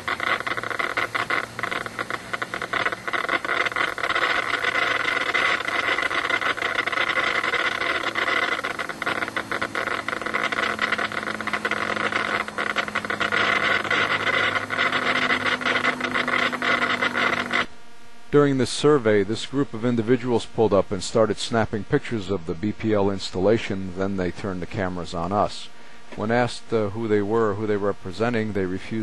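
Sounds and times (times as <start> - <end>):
radio static hissing: 0.0 - 29.0
rapid interference clicks: 0.0 - 29.0.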